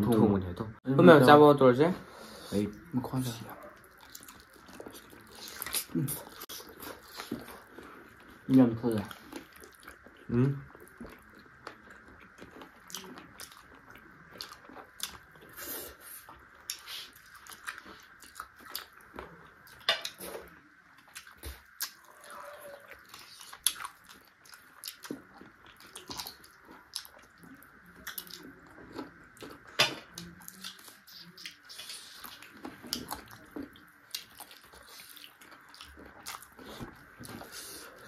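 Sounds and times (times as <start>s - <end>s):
close-up chewing and wet smacks: 3.1s - 15.6s, 16.2s - 38.0s.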